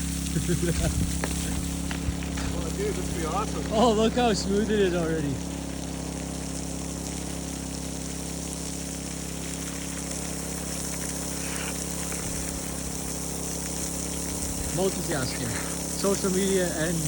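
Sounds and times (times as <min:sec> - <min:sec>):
low machine hum: 0:00.0 - 0:17.0
water hissing from hose: 0:00.0 - 0:17.0.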